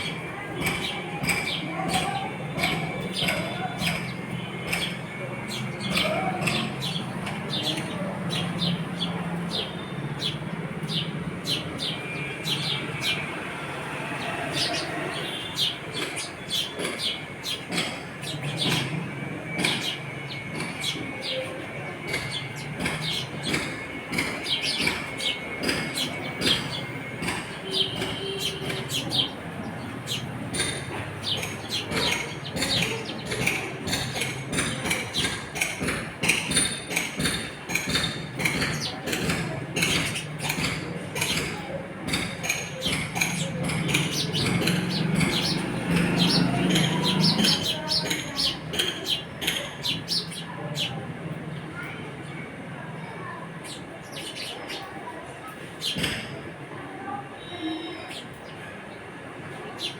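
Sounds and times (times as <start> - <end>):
sparrows chirping: 0.0 - 59.9.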